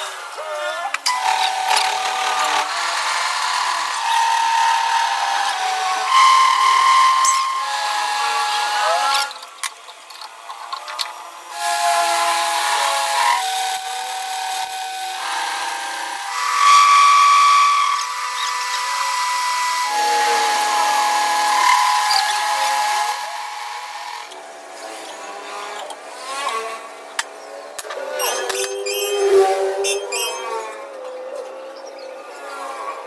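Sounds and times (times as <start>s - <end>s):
electric power tool running: 1.1s - 10.2s, 11.5s - 29.4s.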